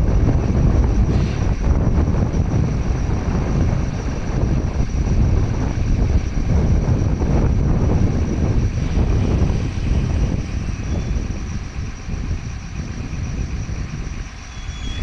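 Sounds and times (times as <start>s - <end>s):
excavator diesel engine rumbling: 0.0s - 15.0s
wind buffeting microphone: 0.0s - 15.0s.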